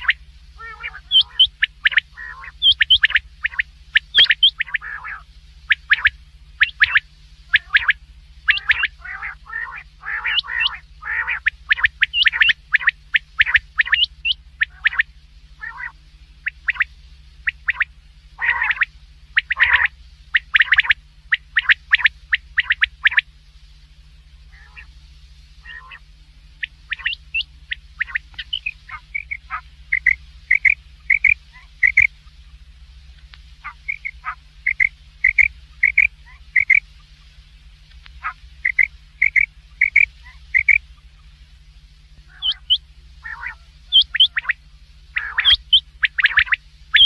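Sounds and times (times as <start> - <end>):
quail calling: 0.0 - 23.3, 24.4 - 25.0, 25.6 - 32.6, 33.6 - 41.4, 42.2 - 47.0
low steady hum: 0.0 - 47.0.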